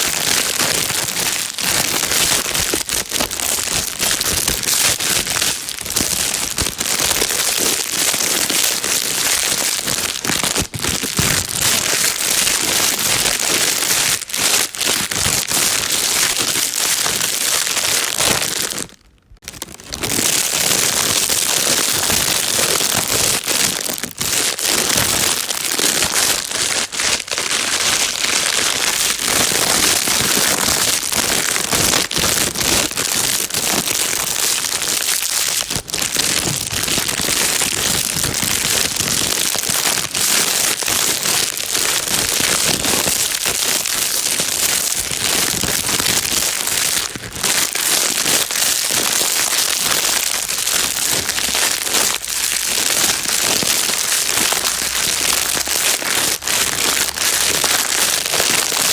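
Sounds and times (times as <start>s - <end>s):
plastic bag crinkling: 0.0s - 58.9s.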